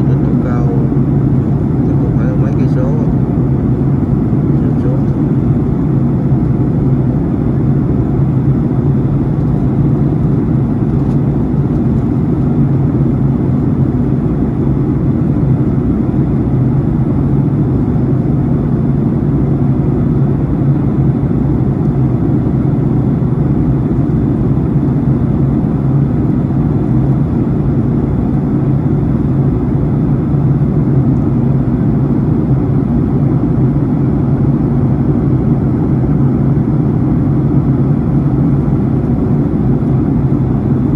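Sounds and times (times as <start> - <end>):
jet cabin engine drone: 0.0 - 40.9.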